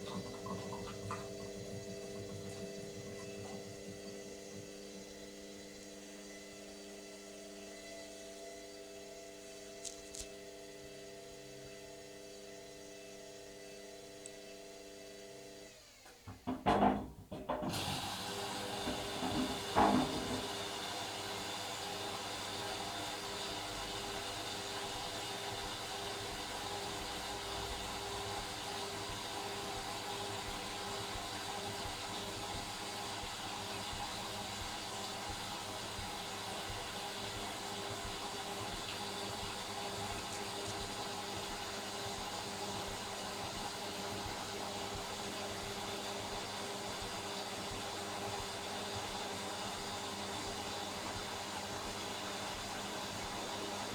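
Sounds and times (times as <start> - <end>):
washing machine spinning: 0.0 - 9.8, 10.4 - 53.9.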